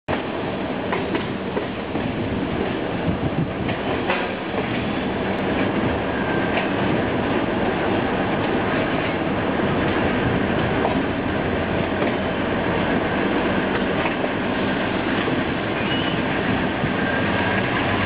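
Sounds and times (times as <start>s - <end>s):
train running rumble: 0.1s - 18.0s
wheels clacking over rail joints: 0.9s - 18.0s.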